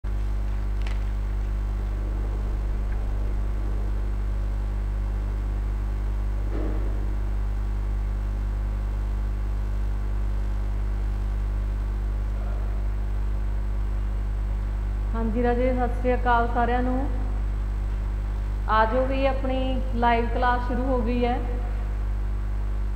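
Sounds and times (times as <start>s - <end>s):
electrical mains hum: 0.0s - 22.9s.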